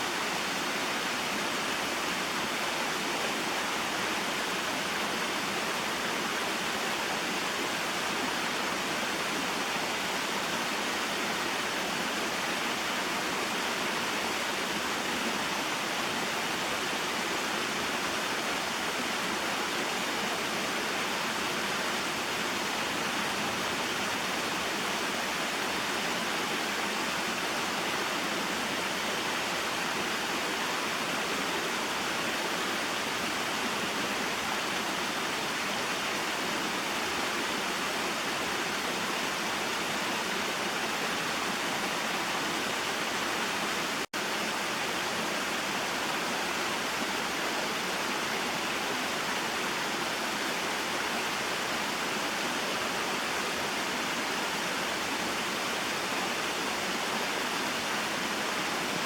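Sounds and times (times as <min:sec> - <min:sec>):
waterfall and stream flowing: 0:00.0 - 0:59.0.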